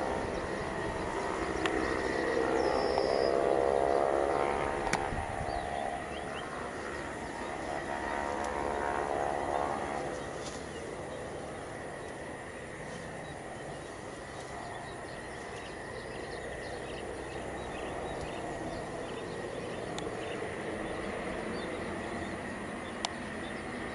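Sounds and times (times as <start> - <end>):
aircraft engines whining and droning: 0.0 - 23.9.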